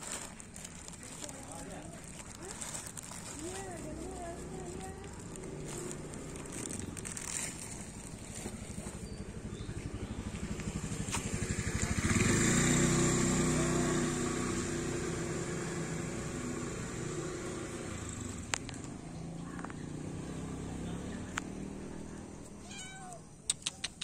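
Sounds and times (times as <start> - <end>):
vehicle engine passing by: 0.1 - 23.2.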